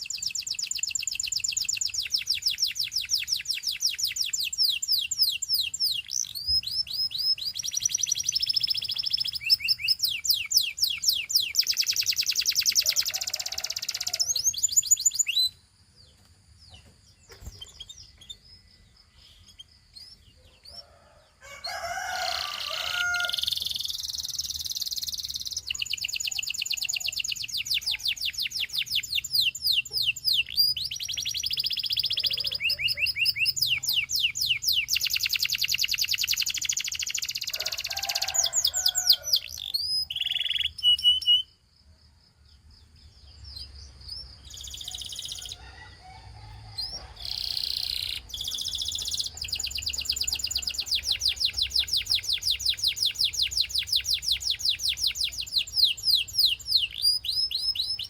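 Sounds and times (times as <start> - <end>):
canary singing trills: 0.0 - 41.6, 42.6 - 58.0.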